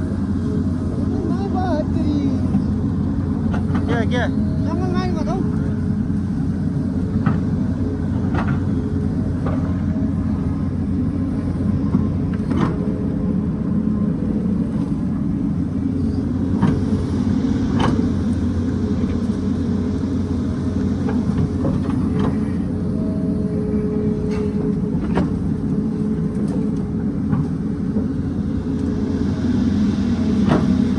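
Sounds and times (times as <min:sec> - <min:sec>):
diesel engine running under load: 0:00.0 - 0:30.9.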